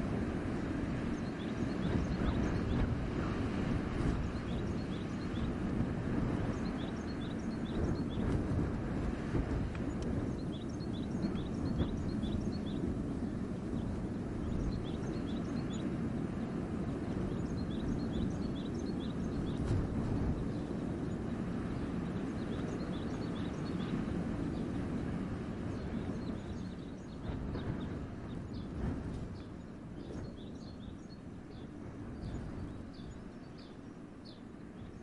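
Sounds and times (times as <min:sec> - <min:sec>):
wind blowing through forest: 0:00.0 - 0:35.0
small birds chirping: 0:00.5 - 0:08.7, 0:09.4 - 0:25.0, 0:25.6 - 0:35.0.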